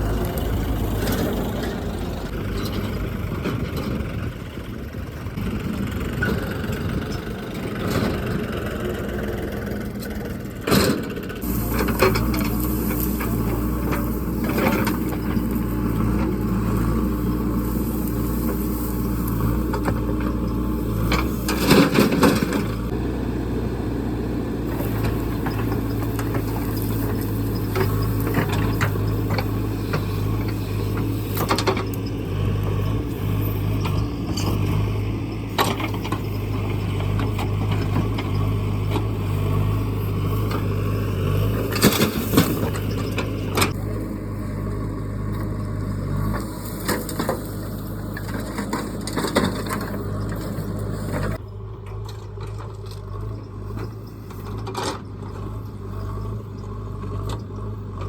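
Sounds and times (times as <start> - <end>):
diesel engine of heavy machinery: 0.0 - 58.0.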